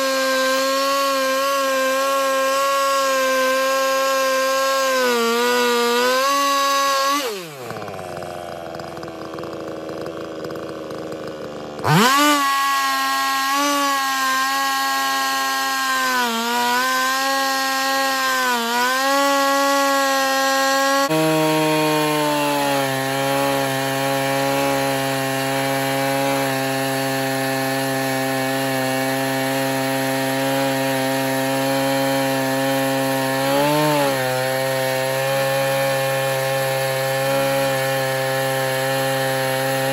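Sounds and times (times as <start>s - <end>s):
chainsaw cutting log: 0.0s - 39.9s
chainsaw idling: 0.0s - 39.9s.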